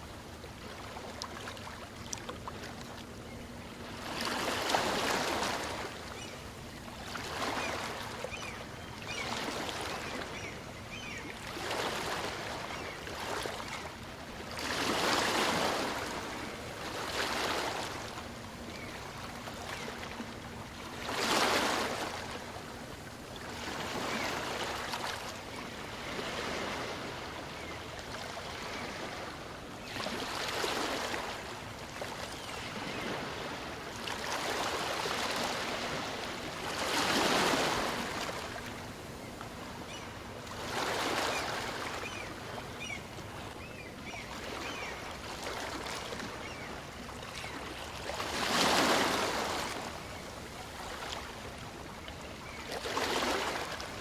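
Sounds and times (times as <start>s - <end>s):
small waves breaking on beach: 3.8s - 6.3s, 7.0s - 13.9s, 14.6s - 20.1s, 20.7s - 22.7s, 23.3s - 54.0s.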